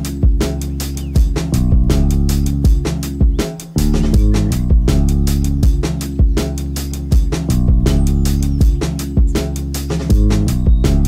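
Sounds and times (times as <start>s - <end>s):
deep bass notes: 0.0s - 11.0s.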